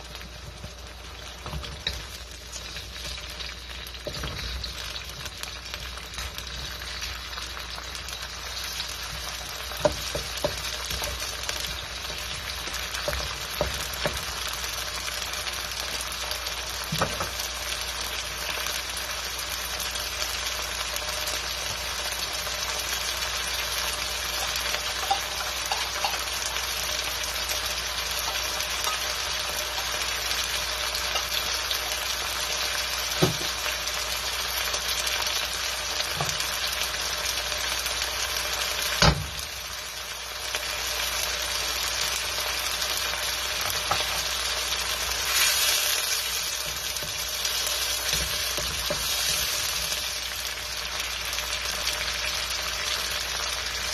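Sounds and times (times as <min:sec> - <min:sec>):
onions sizzling in hot oil: 0:00.0 - 0:53.9.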